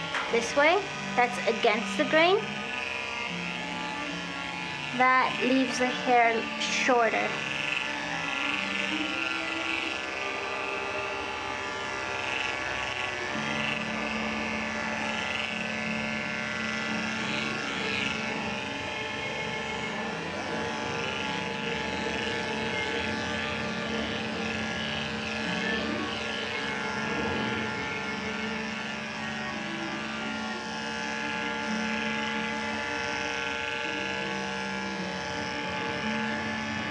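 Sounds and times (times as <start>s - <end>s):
electric clipper motor hum: 0.0s - 36.9s.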